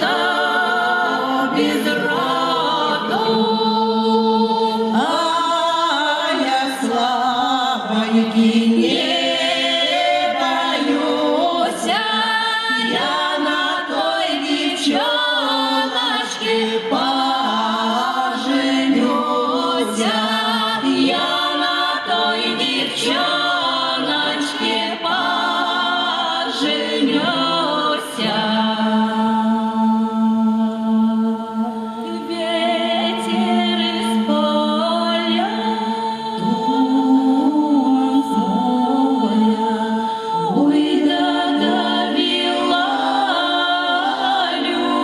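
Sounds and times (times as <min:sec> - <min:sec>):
choir singing a cappella: 0:00.0 - 0:45.0.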